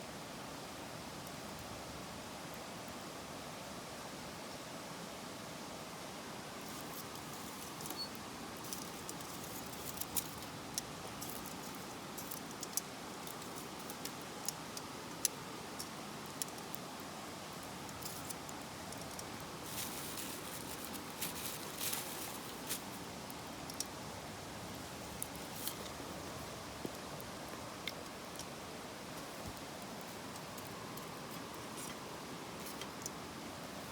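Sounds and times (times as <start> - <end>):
campfire crackling and hissing: 0.0 - 33.9.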